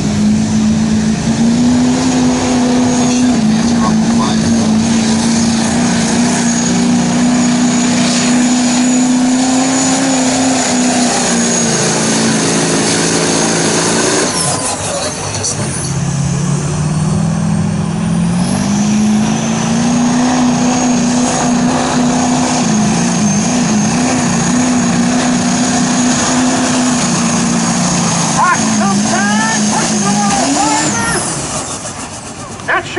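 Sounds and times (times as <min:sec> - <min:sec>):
diesel engine at full throttle: 0:00.0 - 0:32.9.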